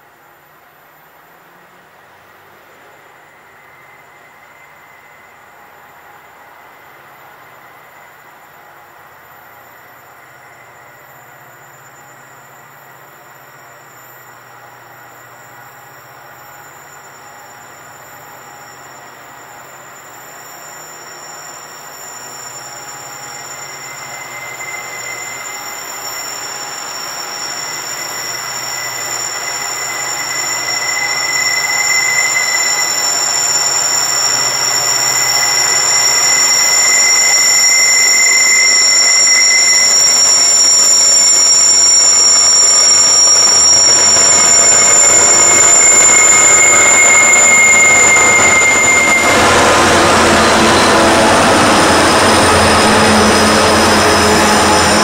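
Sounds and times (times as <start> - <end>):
train approaching: 0.0 - 55.0
steel wheels squealing: 3.0 - 55.0.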